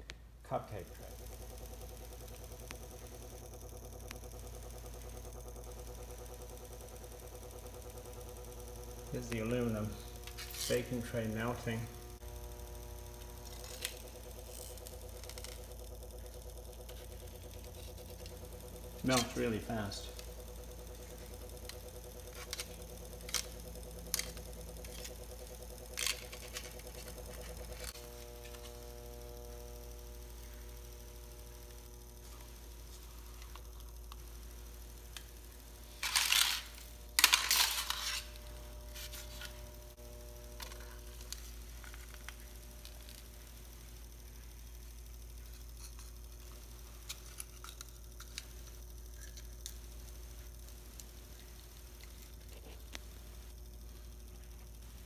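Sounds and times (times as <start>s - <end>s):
induction heater humming: 0.0s - 55.0s.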